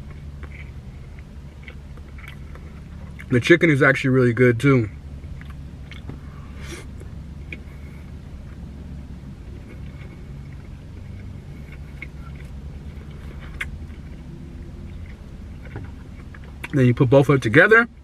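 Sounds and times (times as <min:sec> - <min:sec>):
car cabin hum: 0:00.0 - 0:18.0.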